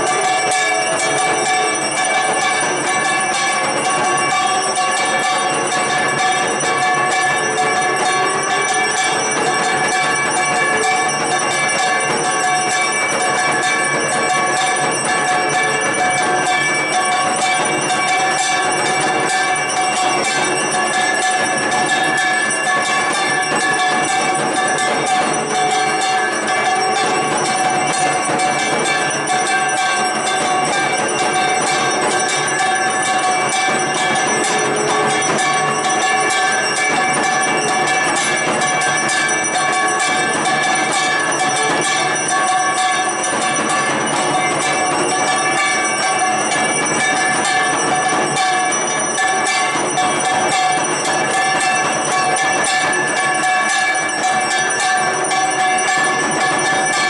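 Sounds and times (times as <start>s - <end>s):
hand bell rung rapidly: 0.0s - 57.0s.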